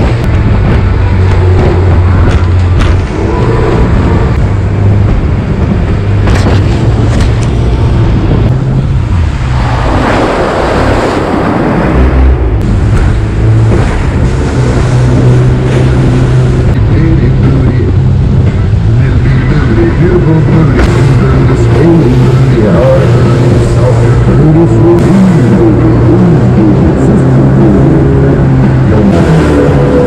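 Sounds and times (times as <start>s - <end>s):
boat engine drone: 0.0s - 30.0s
rushing whitewater and spray: 0.0s - 30.0s.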